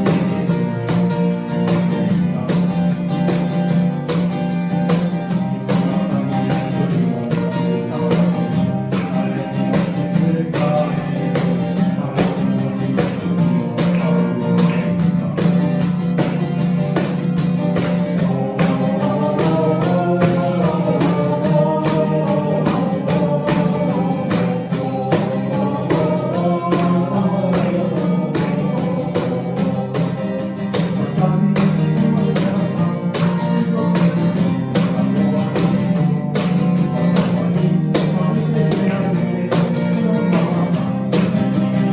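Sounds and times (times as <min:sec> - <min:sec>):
strummed acoustic guitar: 0:00.0 - 0:41.9.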